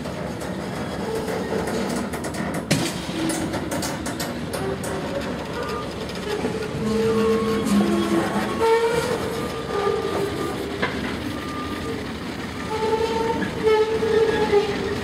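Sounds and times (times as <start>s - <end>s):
freight train rumble: 0.0s - 15.0s
train wheel squeals: 0.3s - 2.5s, 3.1s - 15.0s.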